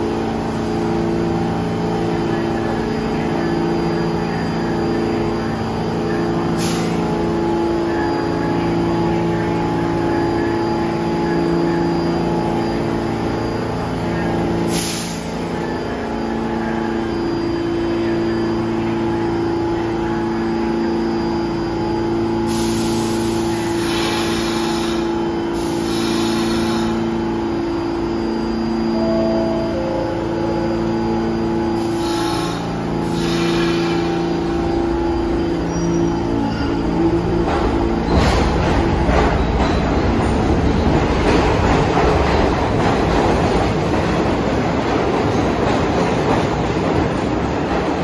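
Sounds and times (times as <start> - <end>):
subway train humming: 0.0 - 48.0.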